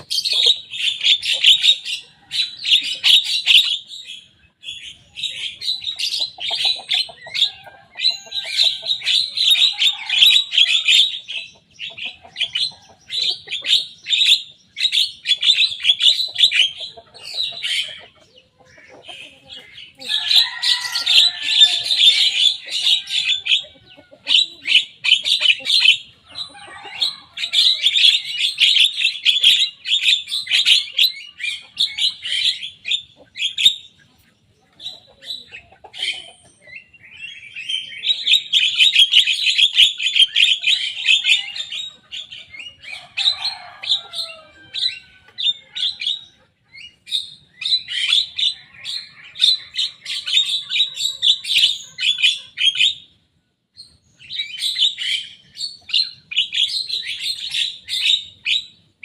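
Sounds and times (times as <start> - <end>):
myna bird chattering song: 0.0 - 53.2, 53.8 - 59.0.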